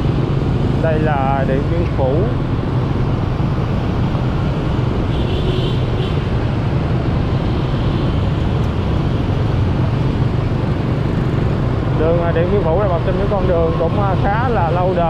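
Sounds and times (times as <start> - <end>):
motorbike traffic rumble: 0.0 - 15.0.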